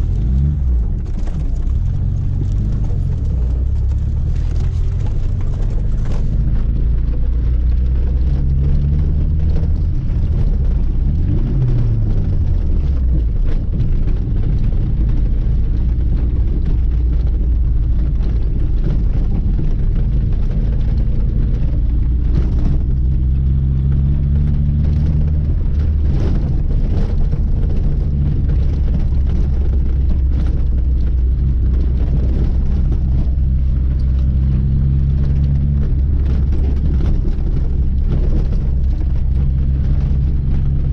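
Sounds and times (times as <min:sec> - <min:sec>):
car engine drone: 0:00.0 - 0:40.9
road noise: 0:00.0 - 0:40.9.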